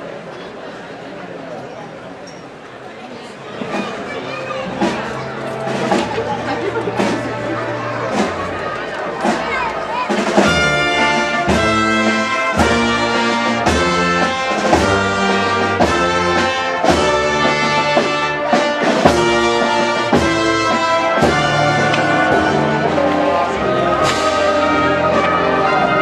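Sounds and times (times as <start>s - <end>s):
brass band playing slow march: 3.6s - 26.0s.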